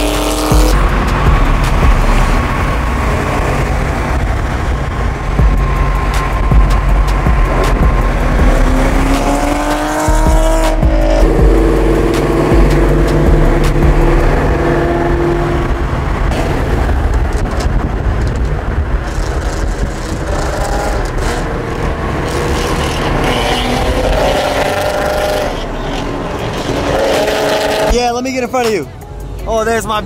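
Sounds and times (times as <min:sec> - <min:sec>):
car exhaust drone: 0:00.0 - 0:28.0
road and wind noise: 0:00.0 - 0:30.0.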